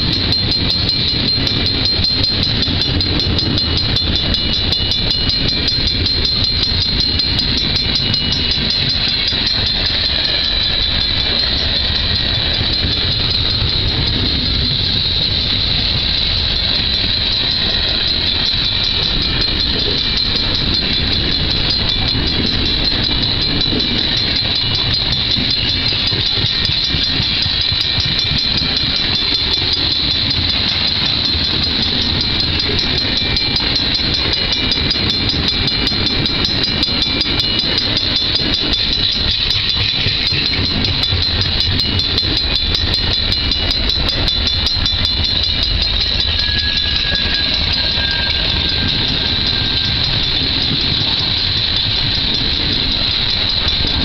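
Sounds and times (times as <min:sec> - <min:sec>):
steady high-pitched tone: 0:00.0 - 0:54.0
train wheel clatter: 0:00.0 - 0:54.0.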